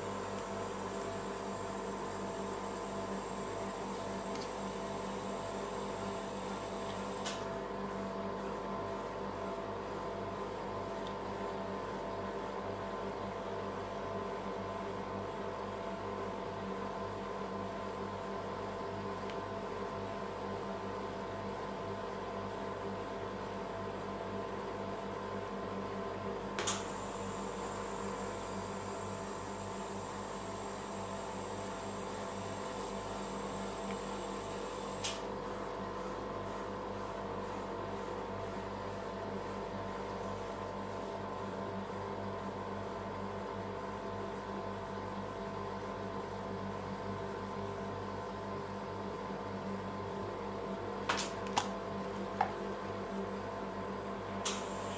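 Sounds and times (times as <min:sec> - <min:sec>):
mechanical hum: 0:00.0 - 0:54.9.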